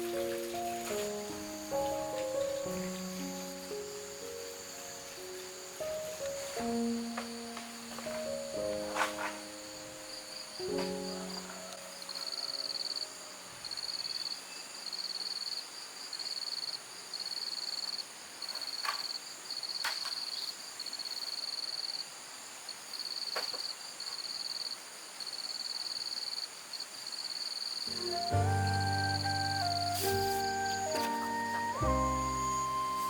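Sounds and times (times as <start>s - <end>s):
crickets trilling: 0.0s - 33.0s
high insect hum: 0.0s - 33.0s.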